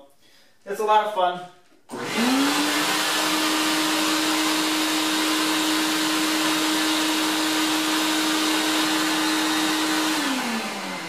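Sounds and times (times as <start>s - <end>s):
shop vac motor whining: 1.9s - 11.0s.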